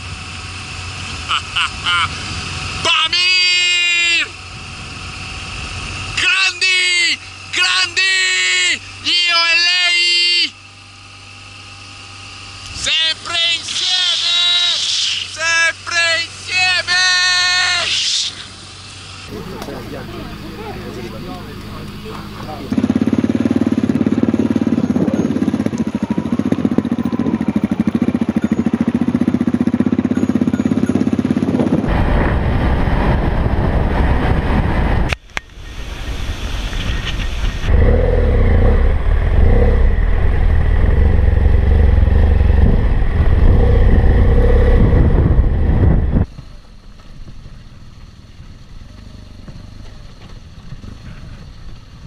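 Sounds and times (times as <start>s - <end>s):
motorcycle engines running: 0.0s - 17.8s, 18.4s - 52.0s.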